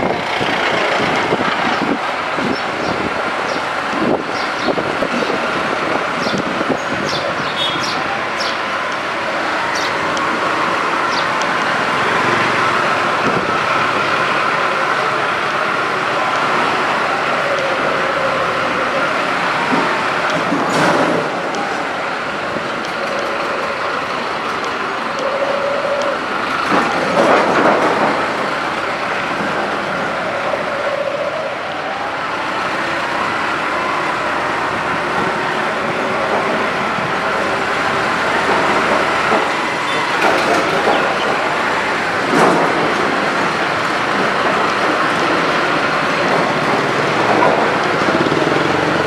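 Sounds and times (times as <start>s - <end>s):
road noise: 0.0s - 49.0s
tractor engine: 0.0s - 49.0s.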